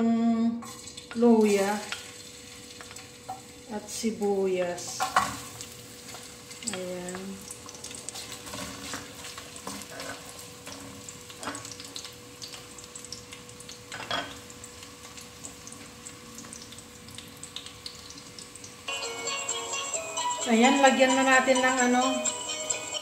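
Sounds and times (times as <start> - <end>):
ginger and onion sizzling in oil: 0.4 - 23.0.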